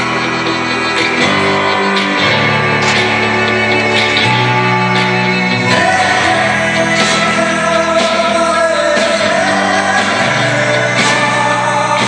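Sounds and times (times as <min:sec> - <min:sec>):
live pop-rock band with singing: 0:00.0 - 0:12.0.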